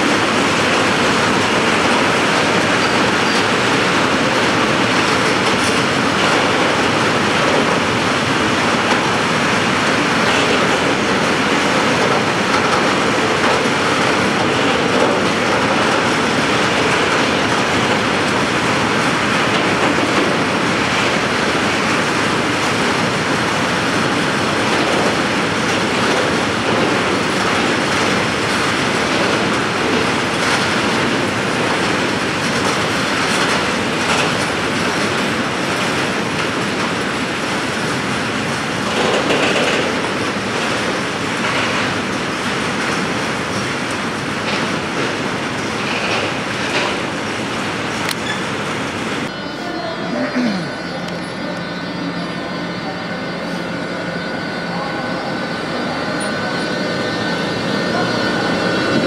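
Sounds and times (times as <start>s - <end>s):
freight train wheels clattering: 0.0s - 49.3s.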